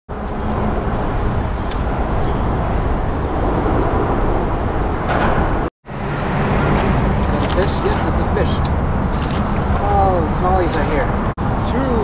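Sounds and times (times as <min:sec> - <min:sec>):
traffic rumble on bridge: 0:00.1 - 0:12.0.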